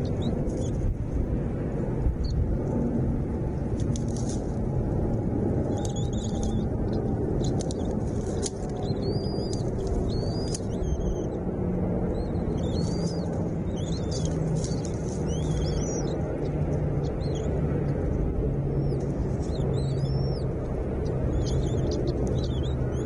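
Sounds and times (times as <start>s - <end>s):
small birds chirping: 0.0s - 1.0s, 2.0s - 2.5s, 5.6s - 23.0s
steady low rumble: 0.0s - 23.0s.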